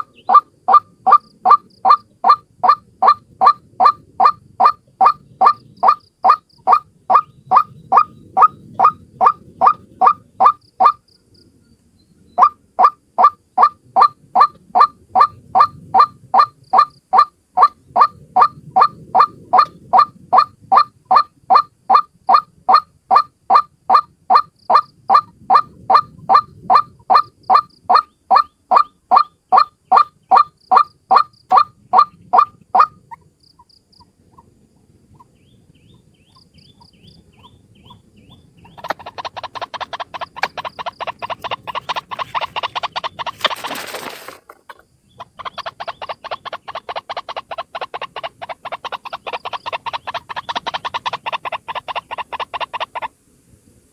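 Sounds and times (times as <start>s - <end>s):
waterhen calling: 0.0s - 11.0s, 12.4s - 33.3s, 35.1s - 53.2s.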